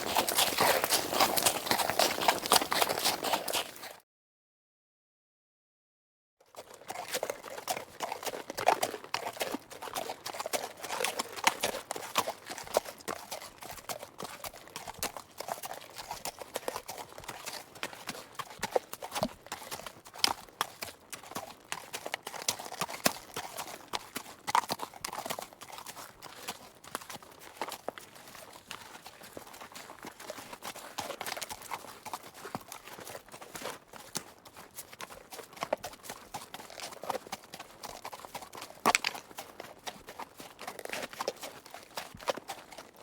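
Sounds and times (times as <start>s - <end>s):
horse hooves clip-clopping: 0.0s - 4.0s, 6.5s - 43.0s.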